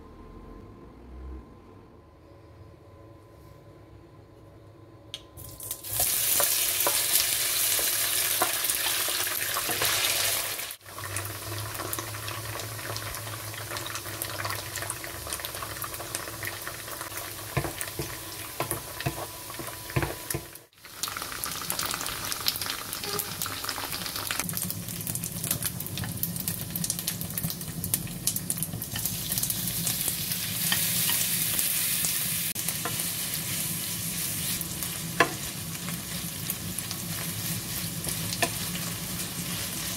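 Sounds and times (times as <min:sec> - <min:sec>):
tofu sizzling in hot oil: 0:05.5 - 0:39.9.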